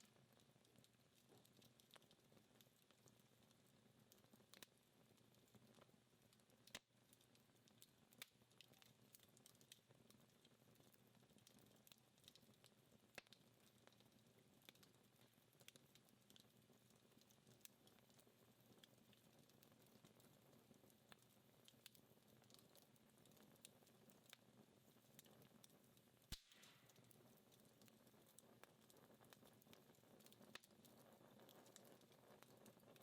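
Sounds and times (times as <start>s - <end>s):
embers popping and ticking: 0.0s - 33.0s
wood fire crackling: 0.0s - 33.0s.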